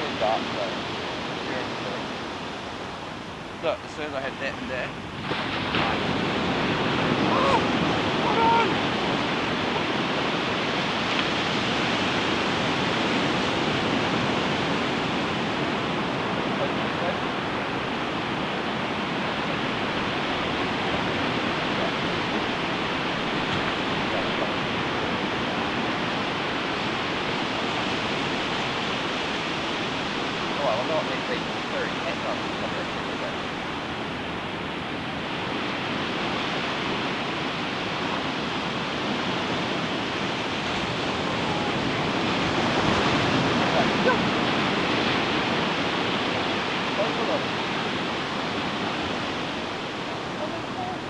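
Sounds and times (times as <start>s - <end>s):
ocean surf on beach: 0.0s - 51.0s.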